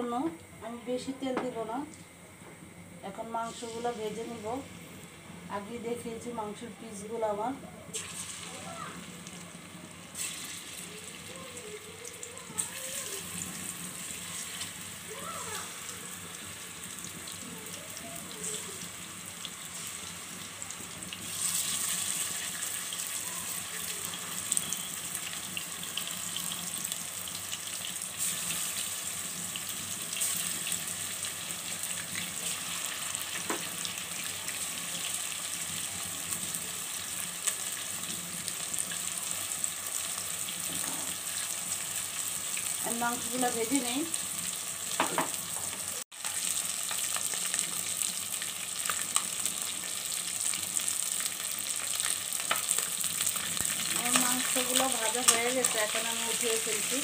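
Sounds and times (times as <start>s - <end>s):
chicken frying in hot oil: 7.8s - 57.0s.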